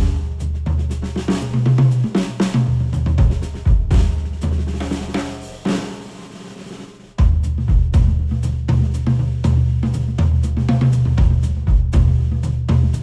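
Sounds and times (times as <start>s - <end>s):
drum-driven instrumental music: 0.0s - 13.0s.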